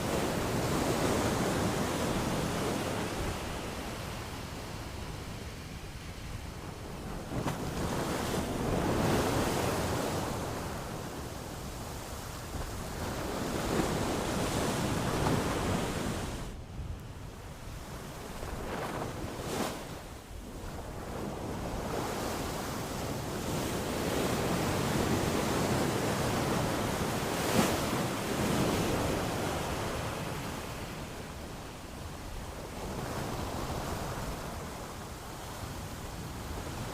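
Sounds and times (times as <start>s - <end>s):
waves breaking on shore: 0.0s - 36.9s.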